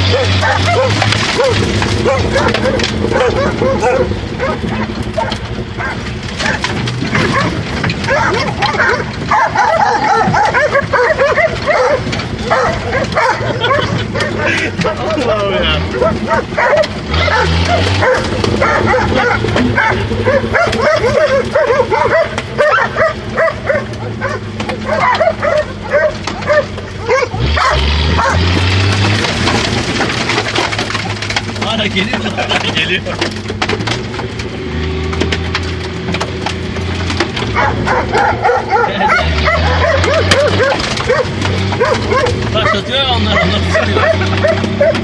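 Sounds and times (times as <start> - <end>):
car engine running: 0.0 - 45.0
dogs barking rapidly: 0.0 - 45.0
stones and mud hitting vehicle: 0.0 - 45.0.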